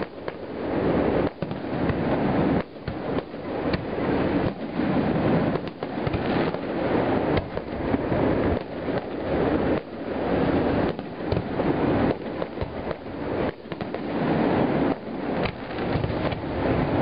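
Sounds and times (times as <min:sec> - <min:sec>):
fireworks booming: 0:00.0 - 0:17.0
sharp firework cracks: 0:00.0 - 0:17.0.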